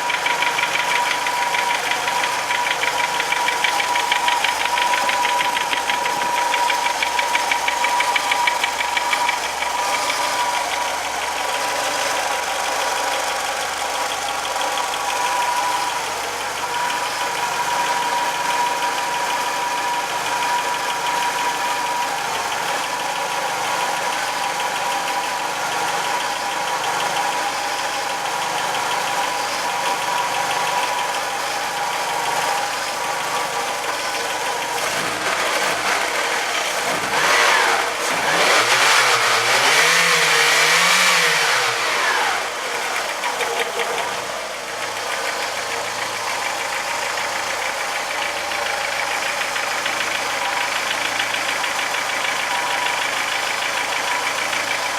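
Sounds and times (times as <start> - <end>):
engine revving: 0.0 - 54.9
petrol engine running with knock: 0.0 - 54.9.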